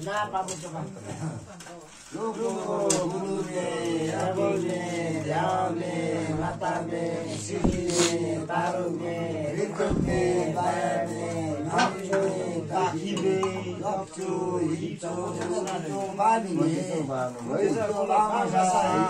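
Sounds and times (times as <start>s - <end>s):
men chanting: 2.1s - 19.0s.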